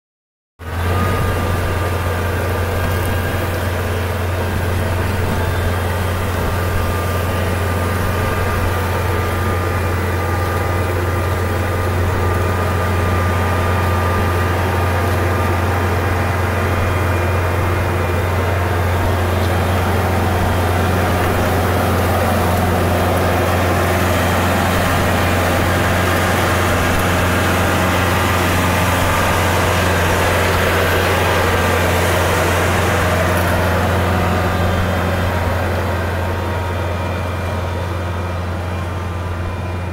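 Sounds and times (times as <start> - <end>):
tractor engine under load: 0.6 - 39.9.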